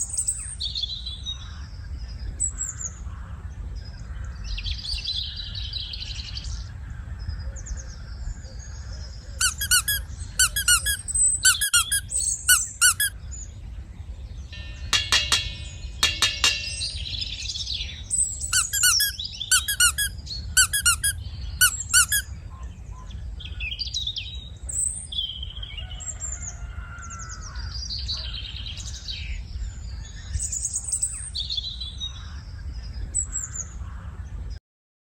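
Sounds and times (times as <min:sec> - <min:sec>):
birds chirping and singing: 0:00.0 - 0:34.6.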